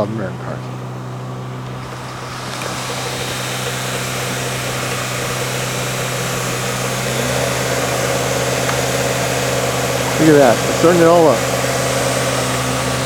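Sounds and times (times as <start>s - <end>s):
deeper hum: 0.0s - 13.0s
engine humming steadily: 0.0s - 13.0s.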